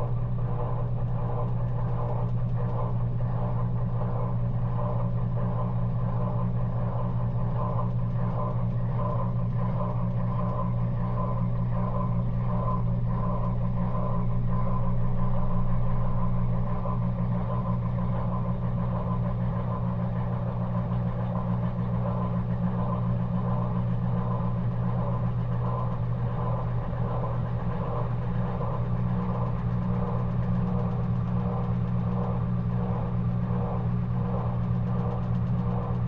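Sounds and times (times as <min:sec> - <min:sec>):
washing machine motor hum: 0:00.0 - 0:36.0.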